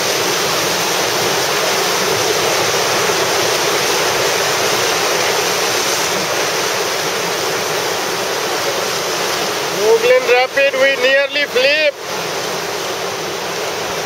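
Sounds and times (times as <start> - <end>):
river rapid rushing: 0.0 - 14.0.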